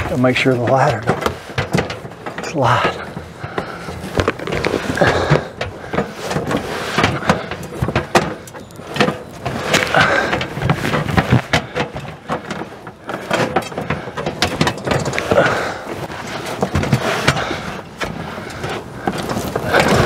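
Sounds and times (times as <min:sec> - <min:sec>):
box scraping against rails: 0:00.0 - 0:20.0
ladder knocking and clattering: 0:00.0 - 0:20.0.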